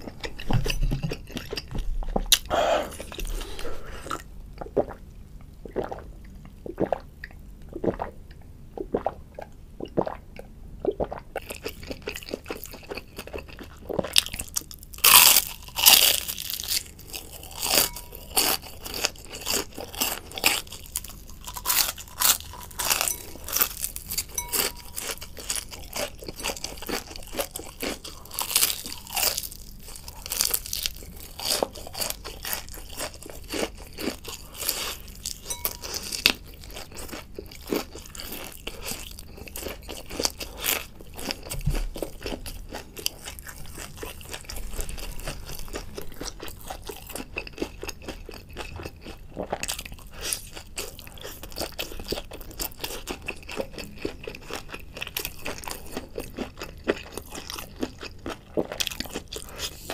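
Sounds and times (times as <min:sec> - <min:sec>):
crunching crispy food: 0:11.6 - 0:59.9.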